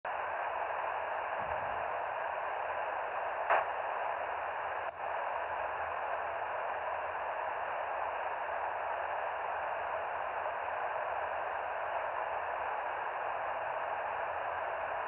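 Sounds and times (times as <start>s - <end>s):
radio receiver hiss: 0.1s - 15.0s.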